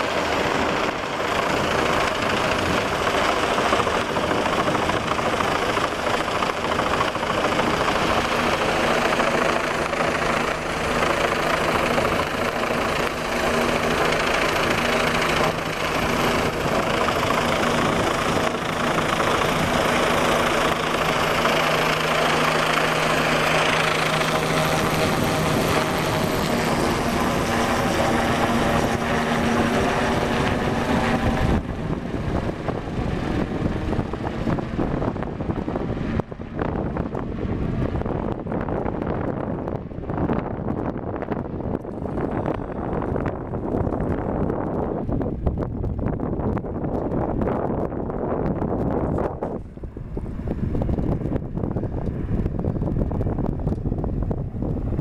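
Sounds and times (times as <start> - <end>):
helicopter hovering overhead: 0.0 - 55.0.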